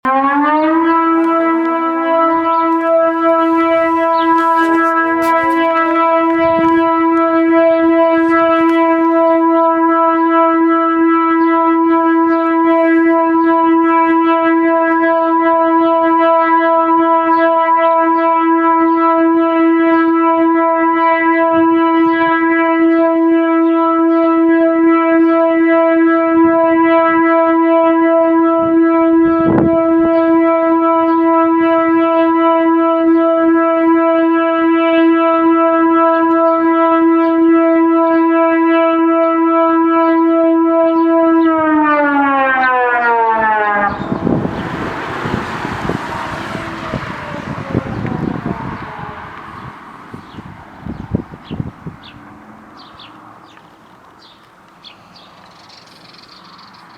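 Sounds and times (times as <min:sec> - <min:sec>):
distant siren rising: 0:00.0 - 0:56.9
warning siren: 0:00.0 - 0:56.9.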